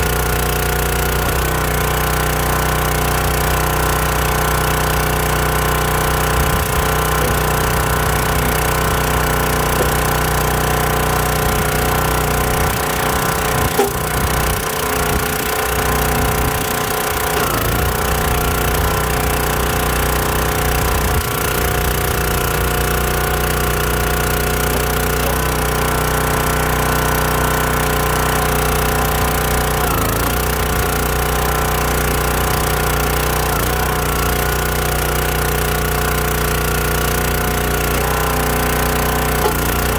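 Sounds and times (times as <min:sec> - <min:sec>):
log splitter gas engine running: 0:00.0 - 0:39.9.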